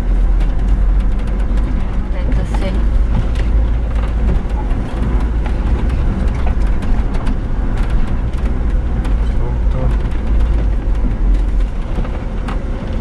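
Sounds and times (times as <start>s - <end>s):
knocks and rattles: 0.0s - 13.0s
vehicle engine and tyres rumbling: 0.0s - 13.0s.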